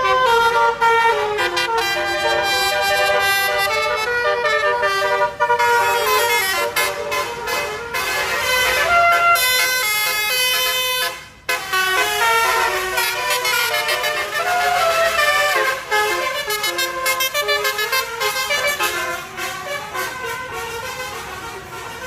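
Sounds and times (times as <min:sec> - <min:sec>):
musical air horn playing a tune: 0:00.0 - 0:22.0.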